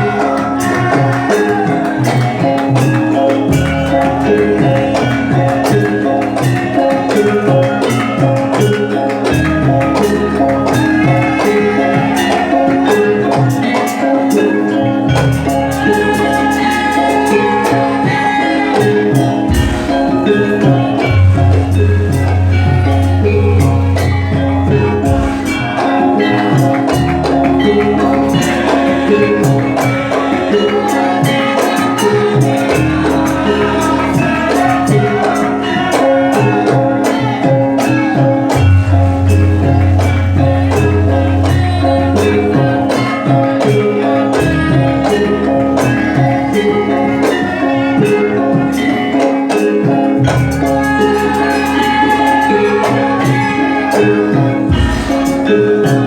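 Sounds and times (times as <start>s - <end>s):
gamelan ensemble playing: 0.0s - 56.0s.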